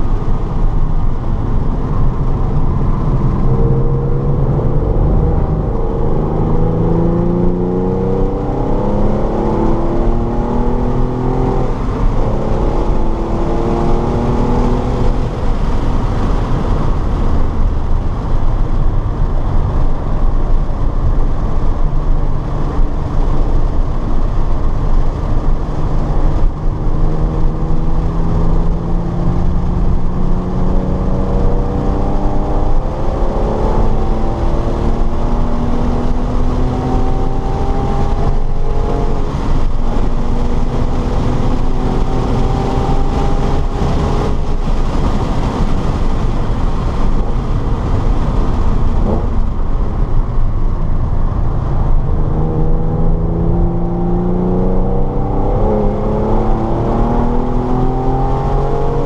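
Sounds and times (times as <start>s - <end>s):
car engine accelerating hard: 0.0s - 59.0s
road and wind rumble: 0.0s - 59.0s.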